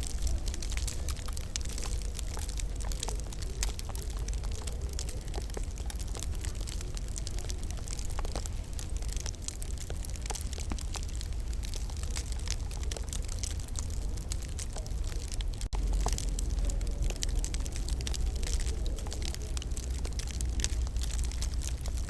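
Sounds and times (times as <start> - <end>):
low rumble of fire: 0.0 - 22.0
wood fire crackling: 0.0 - 22.0.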